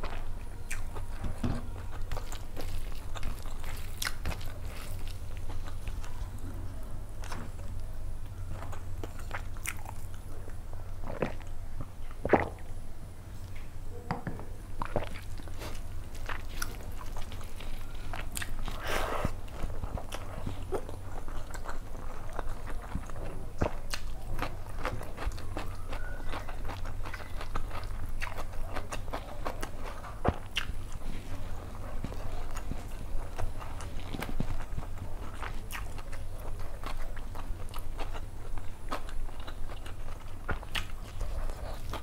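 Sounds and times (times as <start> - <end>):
person chewing food: 0.0 - 6.5, 7.2 - 12.7, 14.7 - 42.0
steady low hum: 0.0 - 42.0.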